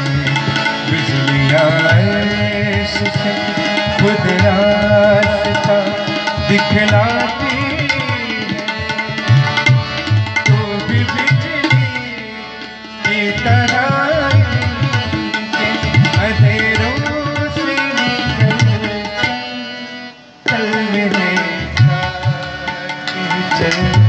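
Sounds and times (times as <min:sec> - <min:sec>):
harmonium chords: 0:00.0 - 0:24.0
tabla playing brisk rhythm: 0:00.0 - 0:24.0.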